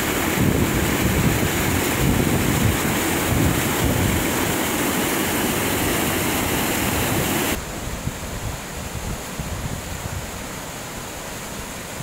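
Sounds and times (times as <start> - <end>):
wind buffeting microphone: 0.0 - 10.4
stream rushing over rocks: 0.0 - 12.0.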